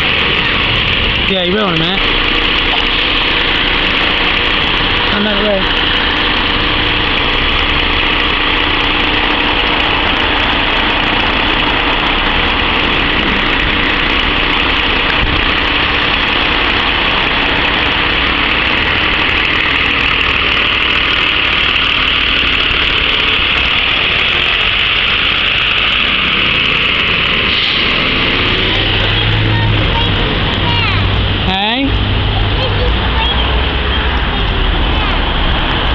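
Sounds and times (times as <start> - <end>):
diesel engine idling: 0.0 - 35.9.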